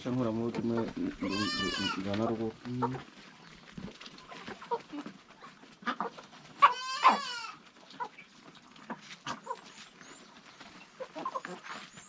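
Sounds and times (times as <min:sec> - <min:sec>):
farm animal bleating: 0:00.2 - 0:10.2, 0:10.9 - 0:12.0.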